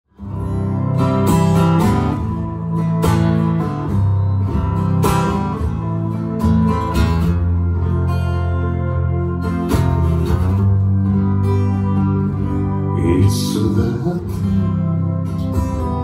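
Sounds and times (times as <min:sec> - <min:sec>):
slow instrumental song: 0:00.1 - 0:16.0
strummed accents: 0:00.1 - 0:16.0.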